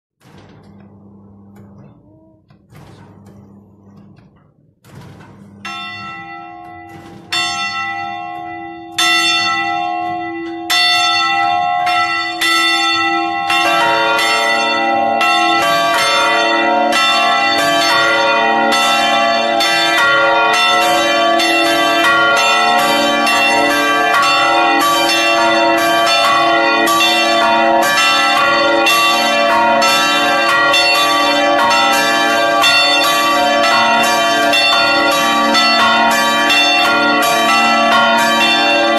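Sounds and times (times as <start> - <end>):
church bells ringing: 0.2 - 38.9.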